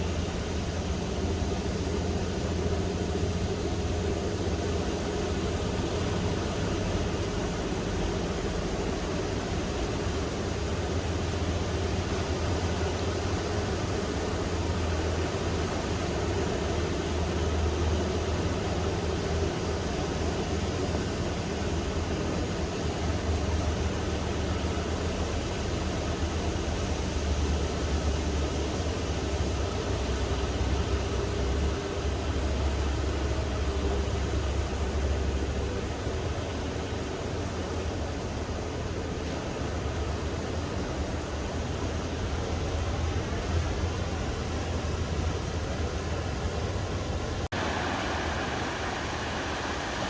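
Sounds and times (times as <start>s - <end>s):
waves washing onto beach: 0.0s - 50.0s.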